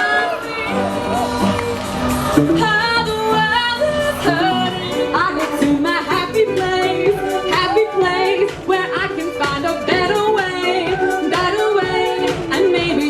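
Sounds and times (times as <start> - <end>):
backing music: 0.0 - 13.0
person singing pop song: 0.0 - 13.0.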